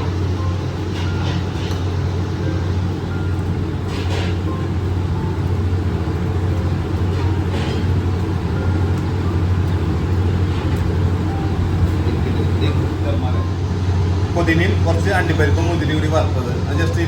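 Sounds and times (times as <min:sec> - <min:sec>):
kitchen machinery hum: 0:00.0 - 0:17.0.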